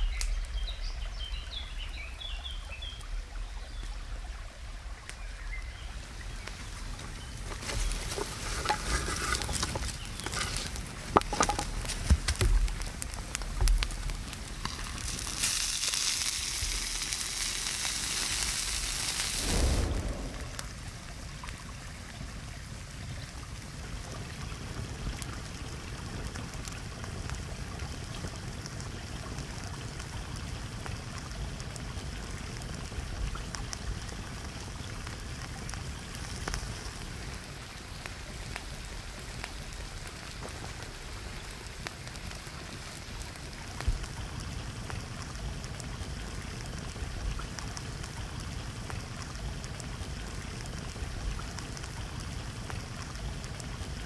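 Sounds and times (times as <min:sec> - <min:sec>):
food sizzling and bubbling: 0:00.0 - 0:54.0.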